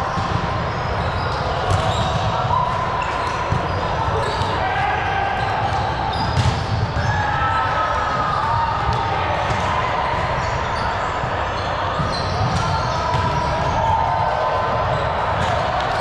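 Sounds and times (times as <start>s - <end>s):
din of players' voices: 0.0s - 16.0s.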